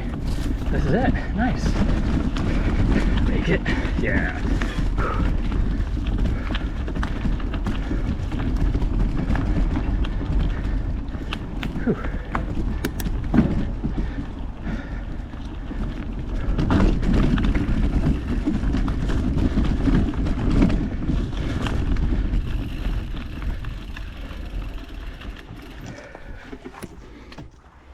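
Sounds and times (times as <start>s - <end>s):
bike rumbling over dirt trail: 0.0s - 27.9s.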